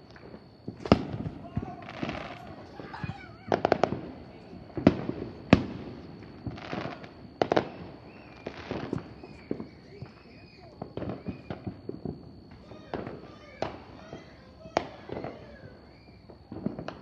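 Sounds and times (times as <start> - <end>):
faint high whine: 0.0 - 17.0
firework bangs: 0.0 - 17.0.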